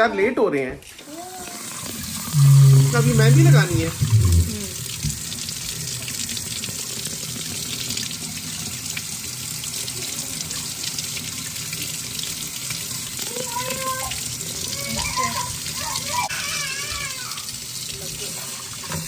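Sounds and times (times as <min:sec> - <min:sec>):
faucet running into sink: 0:00.8 - 0:19.0.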